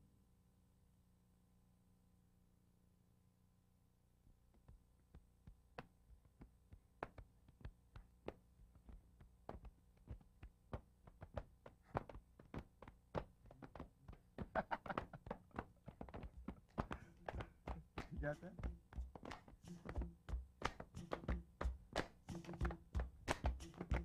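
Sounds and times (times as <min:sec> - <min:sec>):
quiet irregular taps and clicks: 0:04.2 - 0:24.0.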